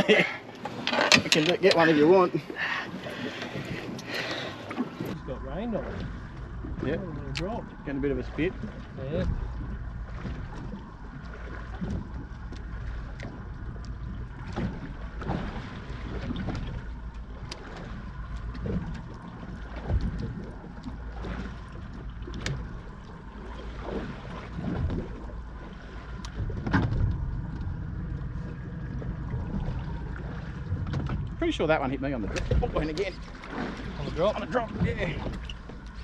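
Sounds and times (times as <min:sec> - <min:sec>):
water washing: 0:00.0 - 0:36.0
wind: 0:00.0 - 0:36.0.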